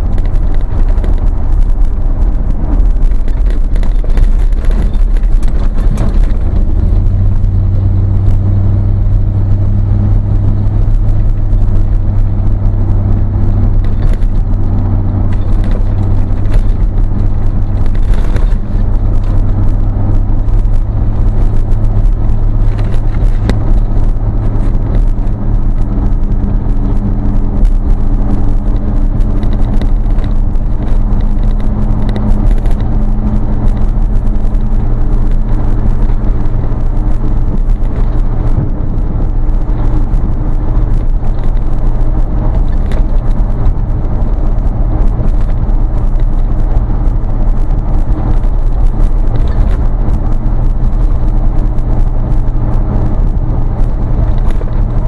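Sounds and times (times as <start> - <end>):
vehicle engine drone from inside cab: 0.0 - 55.0.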